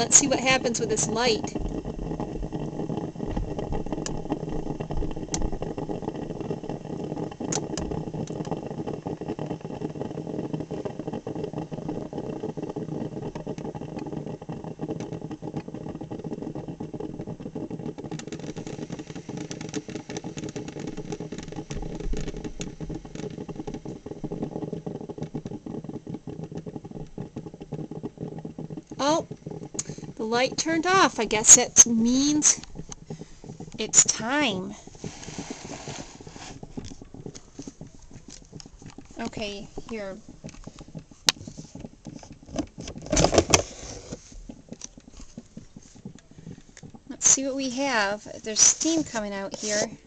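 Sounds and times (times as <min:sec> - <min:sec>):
coffee maker gurgling and sputtering: 0:00.0 - 0:50.0.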